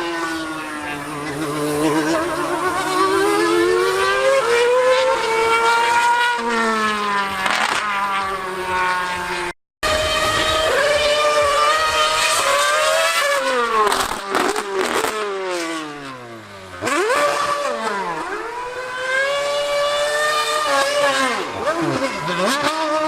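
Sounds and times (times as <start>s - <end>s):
racing engine revving: 0.0s - 23.0s.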